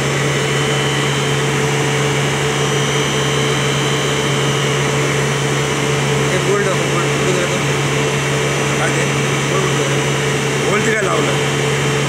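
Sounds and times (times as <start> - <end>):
constant higher tone: 0.0 - 12.0
electric pump droning: 0.0 - 12.0.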